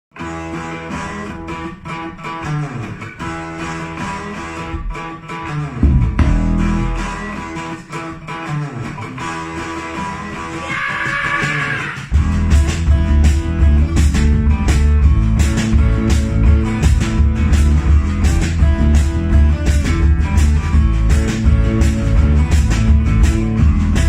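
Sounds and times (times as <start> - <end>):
bass guitar: 0.1 - 24.0
electric guitar: 0.1 - 24.0
drum-machine beat: 1.0 - 8.5, 9.4 - 24.0.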